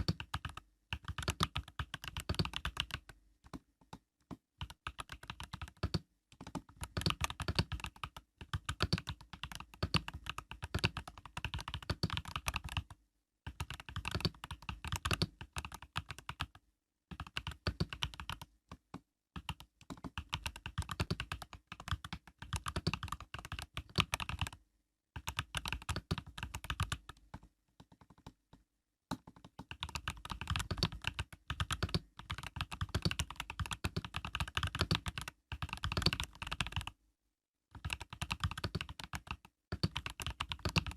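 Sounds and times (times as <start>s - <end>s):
mechanical keyboard typing: 0.0s - 24.6s, 25.2s - 28.4s, 29.1s - 37.0s, 37.8s - 40.9s.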